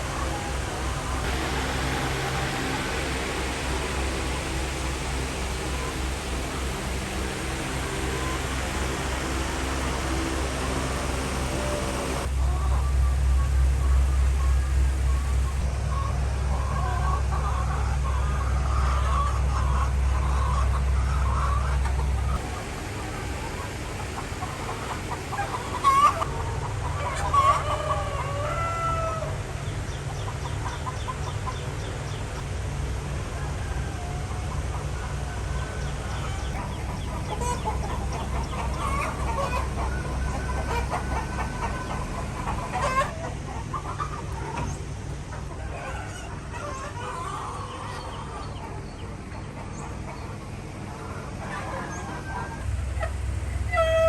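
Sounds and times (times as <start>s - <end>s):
chickens clucking: 0.0s - 54.0s
steady low hum: 0.0s - 54.0s.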